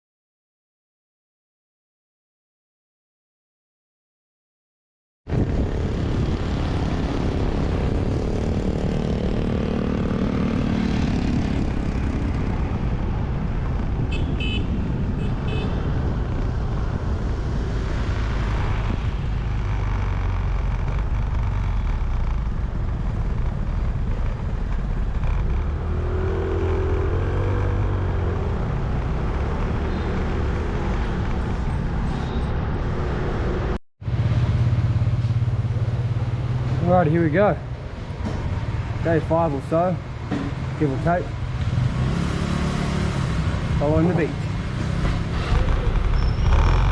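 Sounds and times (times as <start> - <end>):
wind and road noise: 5.3 - 46.9.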